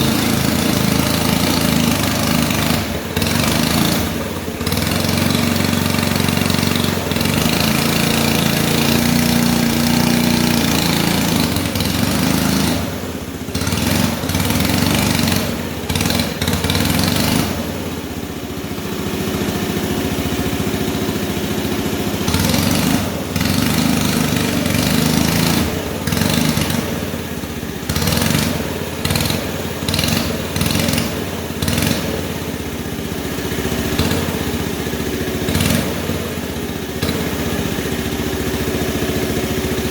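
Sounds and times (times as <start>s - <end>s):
model bulldozer engine revving: 0.0s - 39.9s.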